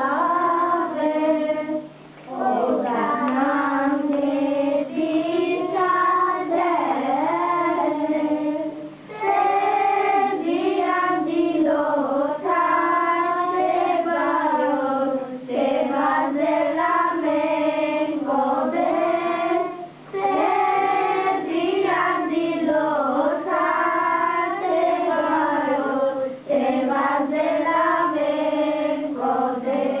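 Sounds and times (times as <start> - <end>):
children singing in unison: 0.0 - 30.0.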